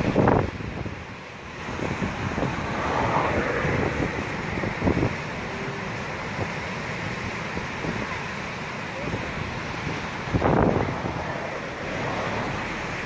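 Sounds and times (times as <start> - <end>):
wind buffeting microphone: 0.0 - 8.4, 9.0 - 13.0.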